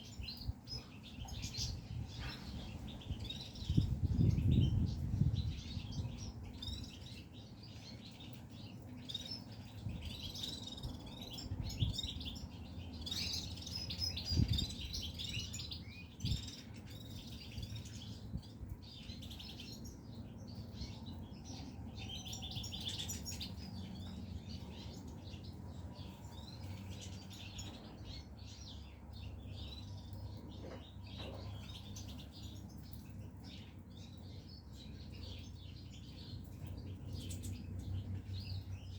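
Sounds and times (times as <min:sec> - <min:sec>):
goldfinches chirping and twittering: 0:00.0 - 0:38.9.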